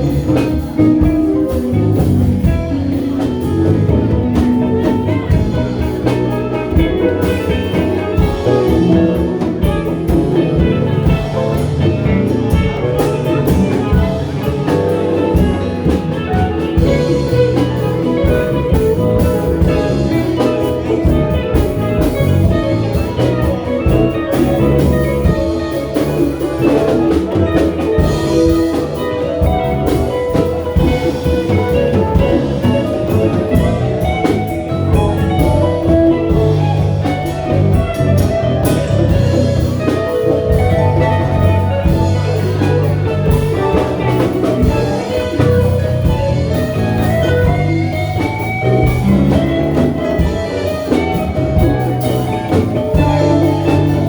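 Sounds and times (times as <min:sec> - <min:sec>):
drum kit: 0:00.0 - 0:54.0
electric guitar: 0:00.0 - 0:54.0
live band playing instrumental: 0:00.0 - 0:54.0.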